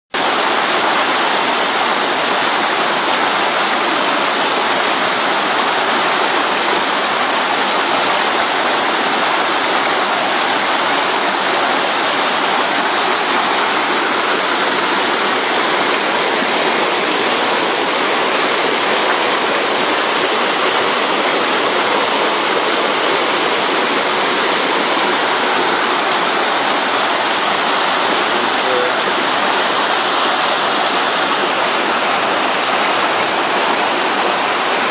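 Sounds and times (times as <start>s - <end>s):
stream cascading over rocks: 0.2s - 34.9s.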